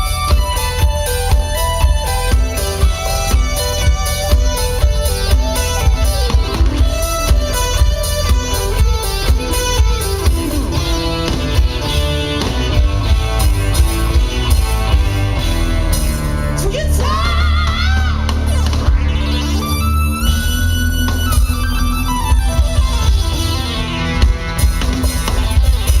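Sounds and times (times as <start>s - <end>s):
loud music with heavy bass: 0.0s - 26.0s.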